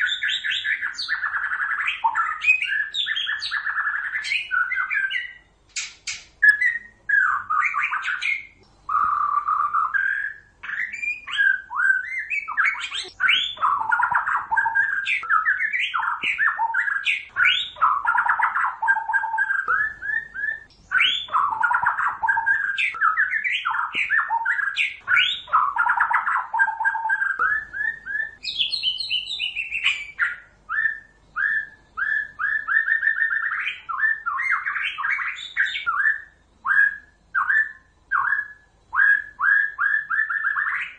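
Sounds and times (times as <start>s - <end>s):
bird chirping calls: 0.0s - 40.9s.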